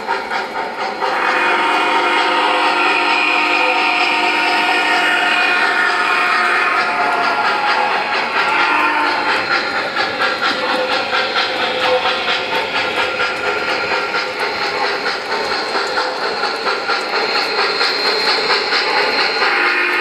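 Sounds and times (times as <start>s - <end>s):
model train steam chuffs: 0.0s - 20.0s.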